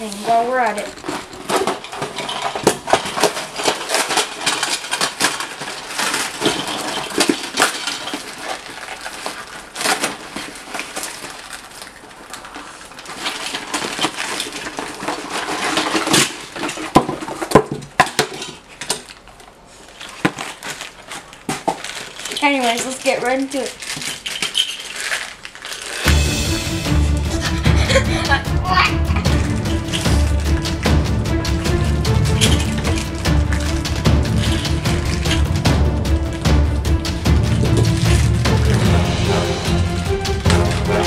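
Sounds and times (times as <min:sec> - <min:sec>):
cardboard tearing: 0:00.0 - 0:41.0
plastic parts clinking: 0:00.0 - 0:41.0.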